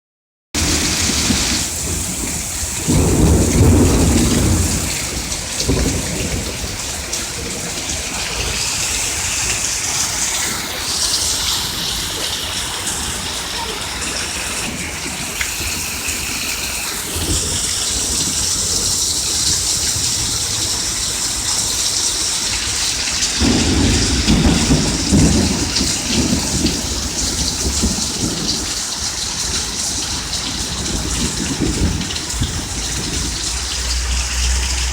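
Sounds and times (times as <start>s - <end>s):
steady rain hissing: 0.6s - 34.9s
thunder rumbling: 0.6s - 34.9s.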